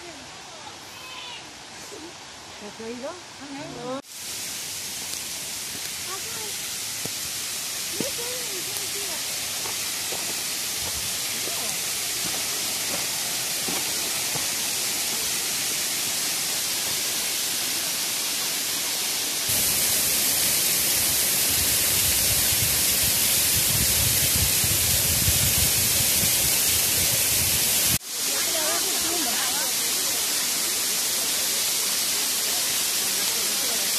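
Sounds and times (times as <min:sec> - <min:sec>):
waterfall rushing water: 0:00.0 - 0:33.9.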